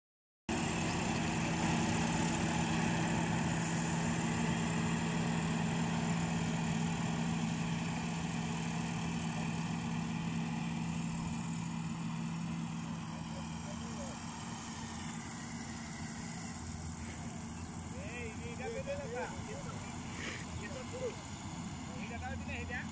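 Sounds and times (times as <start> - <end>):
combine harvester diesel engine: 0.5 - 22.9.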